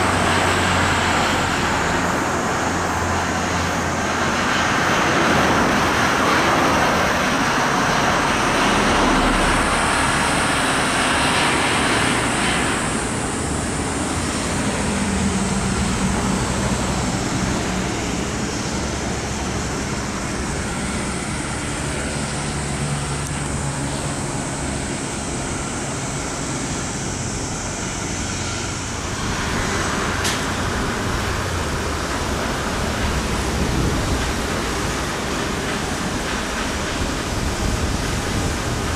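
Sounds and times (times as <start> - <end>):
road traffic rushing past: 0.0 - 38.9.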